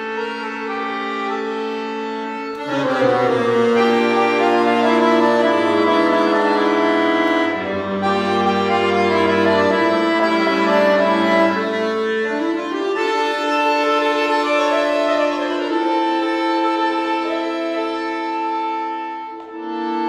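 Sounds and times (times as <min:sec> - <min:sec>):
accordion playing tango: 0:00.0 - 0:20.0.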